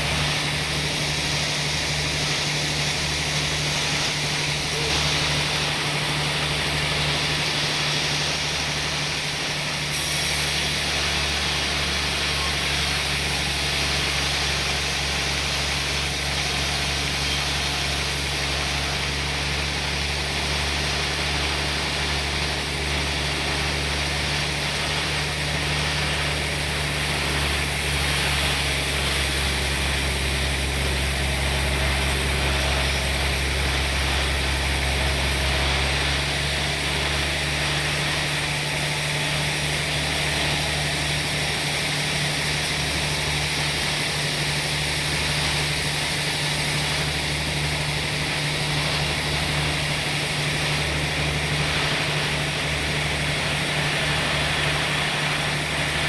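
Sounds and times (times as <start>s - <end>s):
noisy hiss: 0.0s - 56.0s
sawmill machinery hum: 0.0s - 56.0s.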